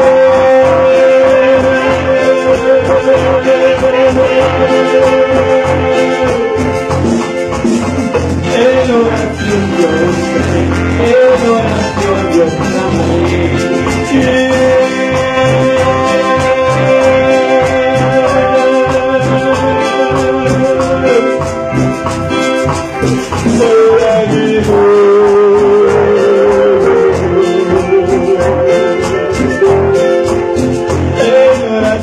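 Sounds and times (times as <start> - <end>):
live latin band playing: 0.0 - 32.0
man singing into microphone: 0.0 - 32.0.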